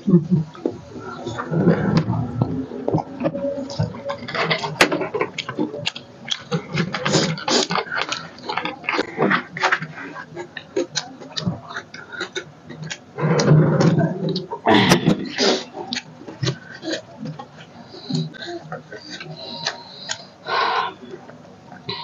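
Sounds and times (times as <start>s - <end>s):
chewing and lip-smacking: 1.9s - 14.6s, 15.2s - 22.0s.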